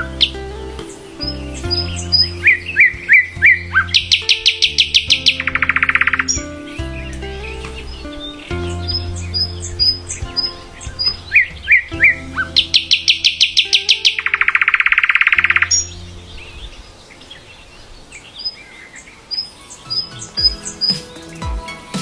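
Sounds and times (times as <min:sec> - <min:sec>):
nightingale singing: 0:00.0 - 0:21.9.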